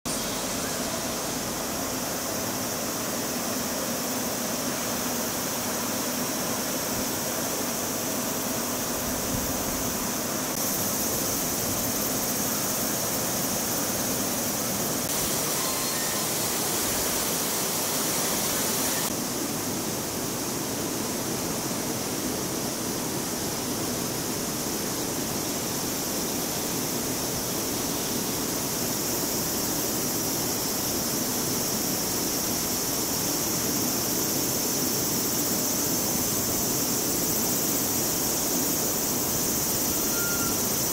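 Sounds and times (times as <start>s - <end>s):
cicada chorus hissing: 0.1s - 40.9s.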